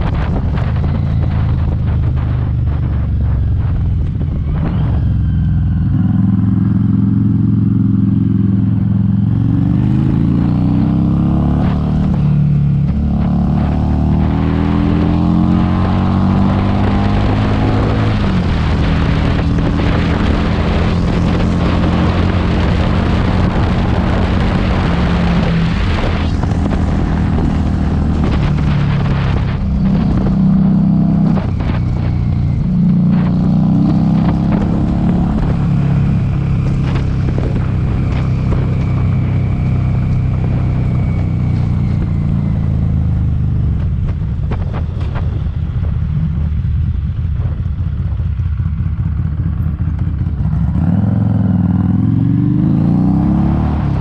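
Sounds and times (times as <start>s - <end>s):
motorcycle engine riding: 0.0s - 54.0s
wind buffeting microphone: 0.0s - 54.0s.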